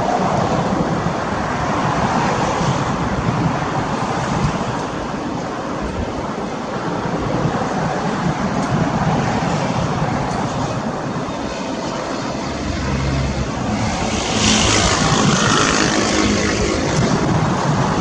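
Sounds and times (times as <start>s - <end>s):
turboprop engines rumbling: 0.0s - 18.0s.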